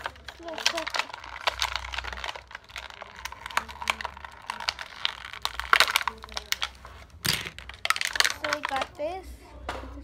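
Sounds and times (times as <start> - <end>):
plastic packaging crinkling: 0.0 - 9.0
plastic toy parts clicking: 0.0 - 9.0.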